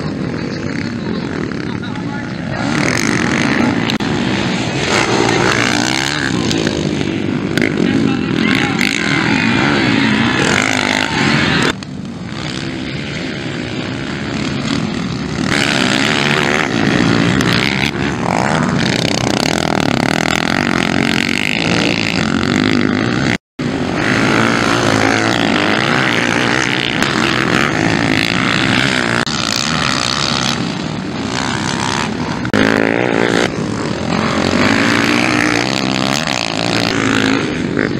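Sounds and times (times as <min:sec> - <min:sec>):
dirt bike engines revving: 0:00.0 - 0:37.9.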